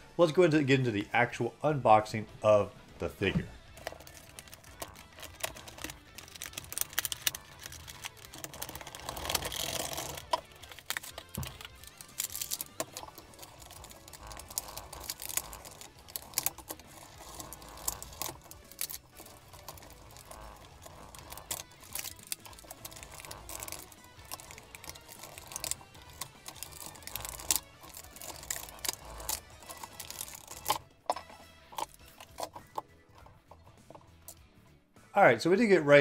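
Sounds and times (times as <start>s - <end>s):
knife cutting plastic blister pack: 3.7s - 33.6s.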